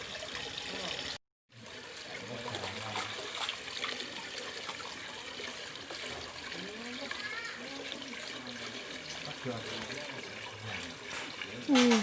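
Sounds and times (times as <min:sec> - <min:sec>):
water running and trickling: 0:00.0 - 0:12.0.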